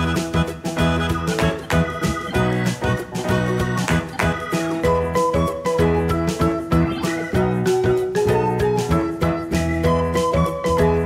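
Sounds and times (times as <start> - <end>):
upbeat keyboard instrumental: 0.0 - 11.0.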